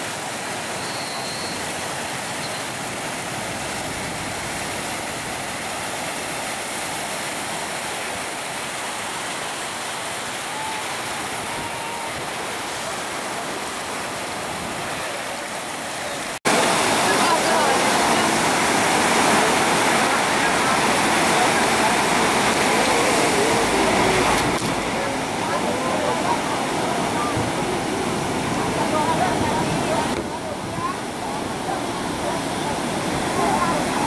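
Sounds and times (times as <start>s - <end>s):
waves breaking on beach: 0.0s - 34.0s.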